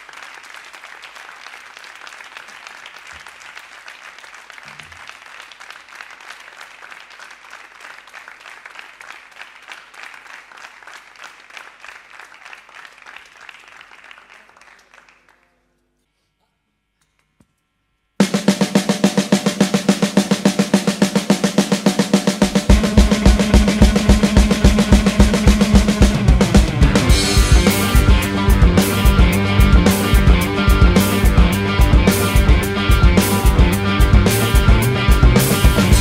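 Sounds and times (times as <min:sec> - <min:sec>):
audience applauding: 0:00.0 - 0:15.6, 0:18.7 - 0:36.0.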